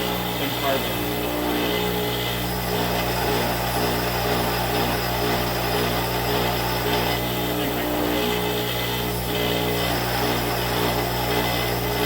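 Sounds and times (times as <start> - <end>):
grinder motor hum: 0.0 - 12.0.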